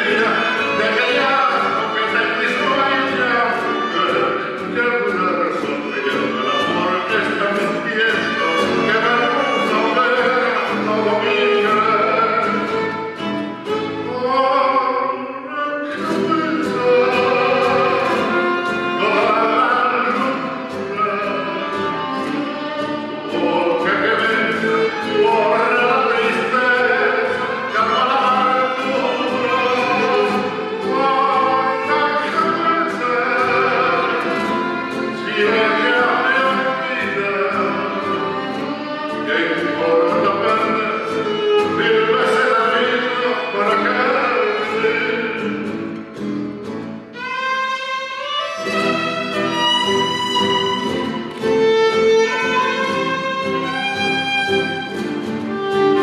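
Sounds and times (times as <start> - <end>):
man singing: 0.0 - 45.9, 47.1 - 56.0
acoustic guitar: 0.0 - 56.0
violin: 0.0 - 56.0.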